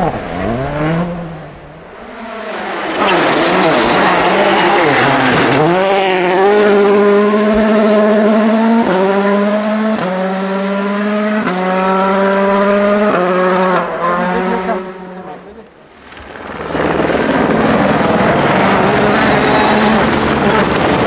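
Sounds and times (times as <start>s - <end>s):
rally car engine accelerating: 0.0s - 15.6s, 16.4s - 21.0s.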